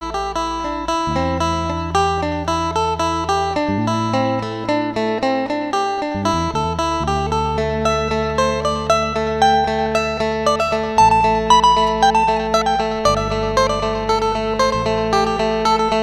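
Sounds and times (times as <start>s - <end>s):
bass line: 0.0s - 16.0s
plucked guitar music: 0.0s - 16.0s.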